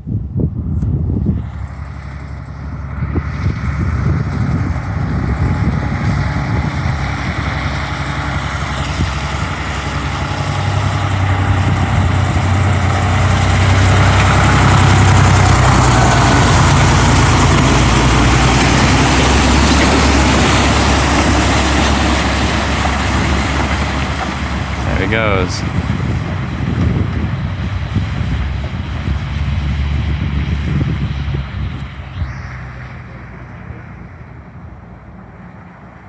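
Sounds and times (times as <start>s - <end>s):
rush of noise: 0.0s - 36.0s
truck diesel engine running: 0.0s - 36.0s.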